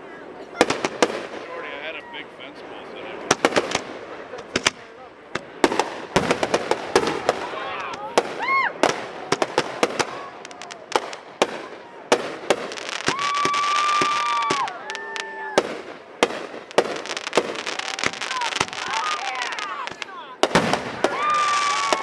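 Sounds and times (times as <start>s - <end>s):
fireworks whistling: 0.1s - 22.0s
fireworks cracks and pops: 0.6s - 1.6s, 3.2s - 22.0s.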